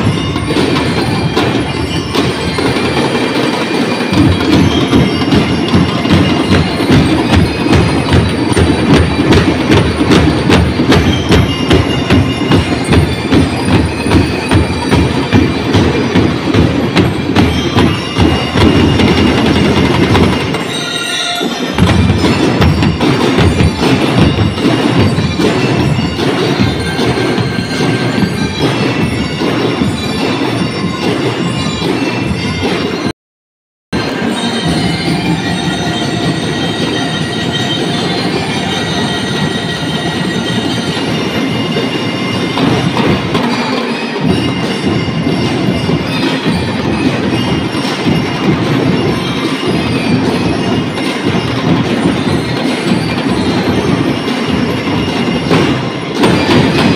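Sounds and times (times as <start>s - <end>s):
bell-lyre notes ringing: 0.0s - 33.1s, 34.0s - 56.9s
snare drums beating: 0.0s - 33.1s, 34.0s - 56.9s.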